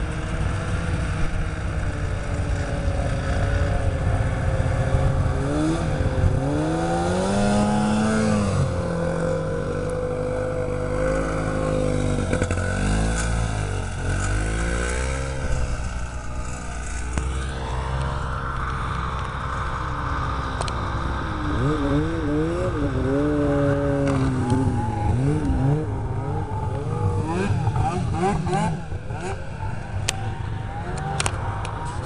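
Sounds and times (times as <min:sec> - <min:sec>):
snowmobile engines revving: 0:00.0 - 0:32.0.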